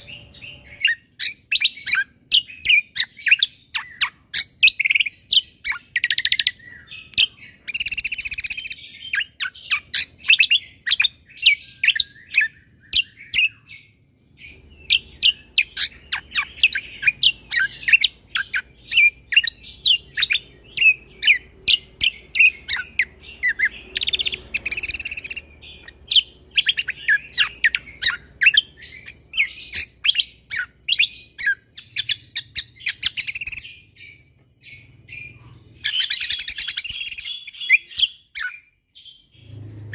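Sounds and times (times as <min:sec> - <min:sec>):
songbird chirping and whistling: 0:00.0 - 0:39.9.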